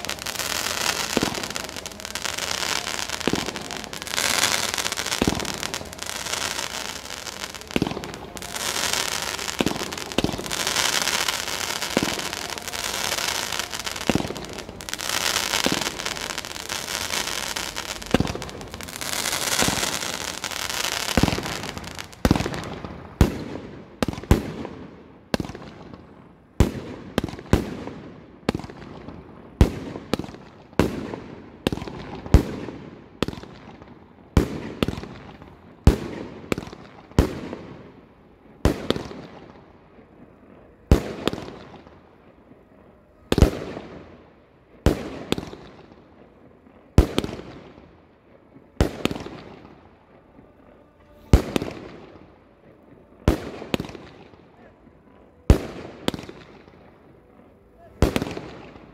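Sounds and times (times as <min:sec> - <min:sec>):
fireworks bangs with echo: 0:00.0 - 0:58.9.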